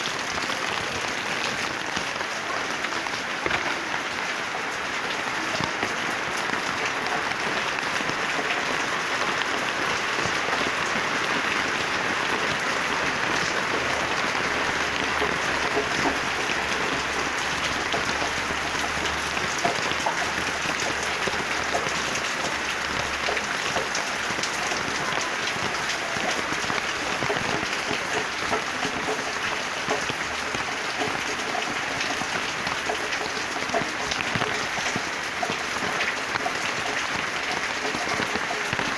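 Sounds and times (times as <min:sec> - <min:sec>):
rain falling on plants: 0:00.0 - 0:38.9.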